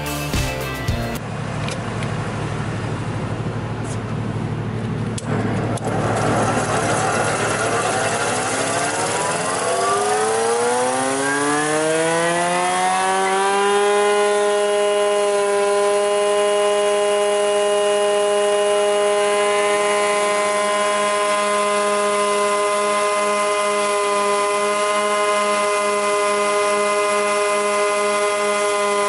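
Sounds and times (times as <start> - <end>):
planer motors whining: 5.2 - 29.0.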